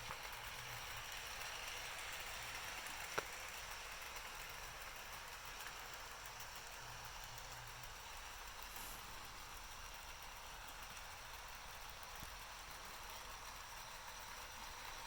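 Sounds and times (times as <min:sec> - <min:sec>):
model locomotive whirring: 0:00.0 - 0:15.0.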